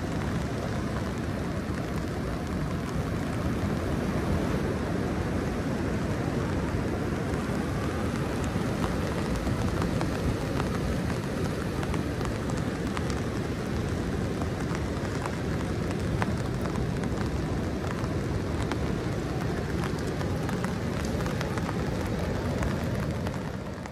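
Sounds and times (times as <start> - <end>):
rain ticking on an umbrella: 0.0 - 23.9.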